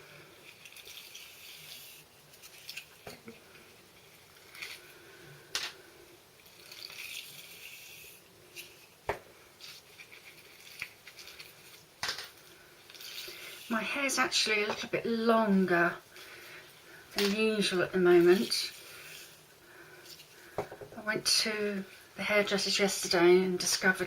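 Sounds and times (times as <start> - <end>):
soft rustling of hair: 0.0 - 24.0.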